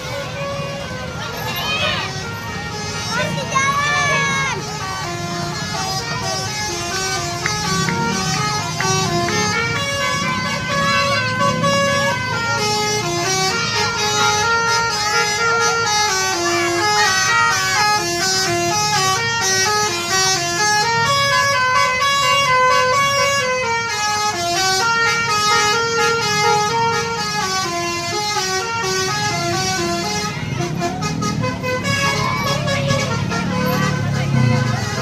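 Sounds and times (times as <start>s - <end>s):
multi-tone musical bus horn: 0.0s - 35.0s.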